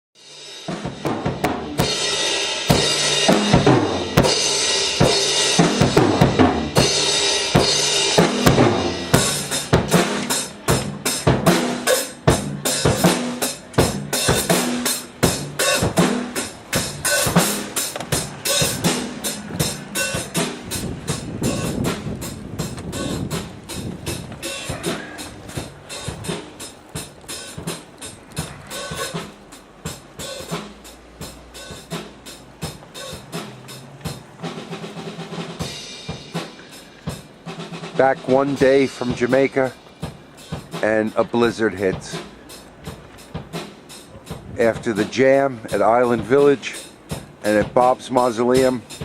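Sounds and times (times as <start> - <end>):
drum kit playing: 0.2 - 49.0
pitched instrument: 0.8 - 45.3
cymbals ringing: 1.6 - 23.3, 24.2 - 44.3.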